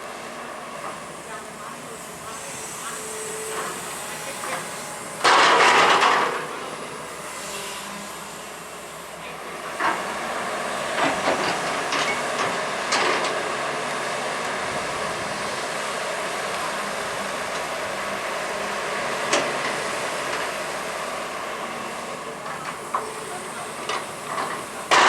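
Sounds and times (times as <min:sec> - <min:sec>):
excavator engine running with hiss: 0:00.0 - 0:25.0.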